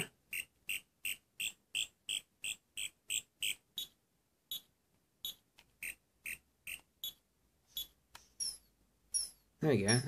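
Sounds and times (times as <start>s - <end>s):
high electronic chirps: 0.3s - 10.0s.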